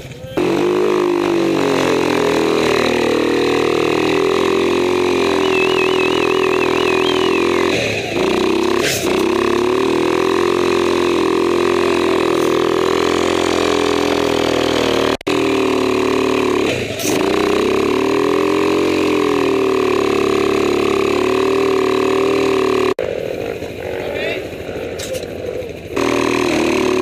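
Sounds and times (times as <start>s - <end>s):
quad engine revving high: 0.0s - 27.0s
wheels spinning in mud: 0.0s - 27.0s.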